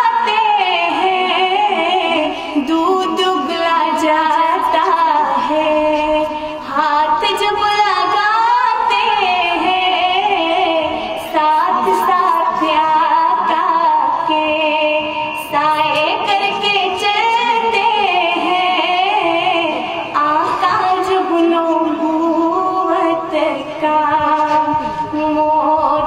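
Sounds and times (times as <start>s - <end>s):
woman singing into a microphone: 0.0s - 26.0s.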